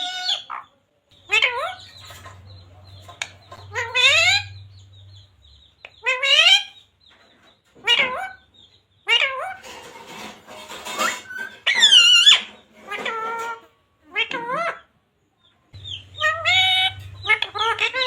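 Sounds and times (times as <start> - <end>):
parrot calling: 0.0 - 6.9, 7.8 - 9.8, 10.8 - 14.9, 15.8 - 18.0.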